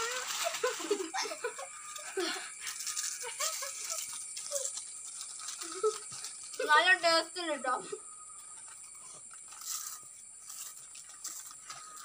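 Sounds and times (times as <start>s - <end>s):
chip packets crinkling: 0.0s - 7.0s, 8.7s - 12.0s.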